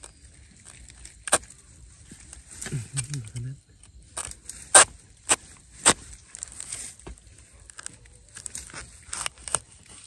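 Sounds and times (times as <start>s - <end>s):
soil and dry leaves crackling: 0.0s - 10.0s.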